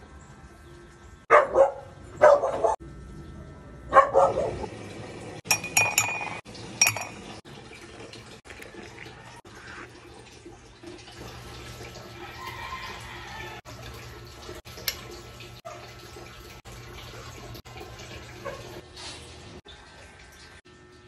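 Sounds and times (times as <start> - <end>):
water running: 4.0 - 21.0.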